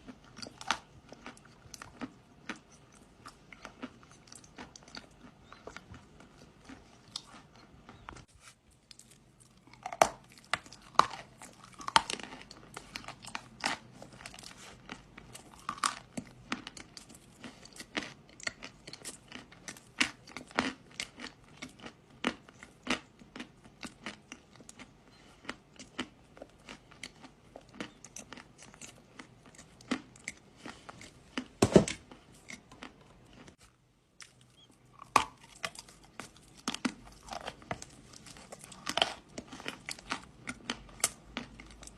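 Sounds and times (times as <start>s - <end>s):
dry clay crunching being chewed: 0.0s - 41.9s.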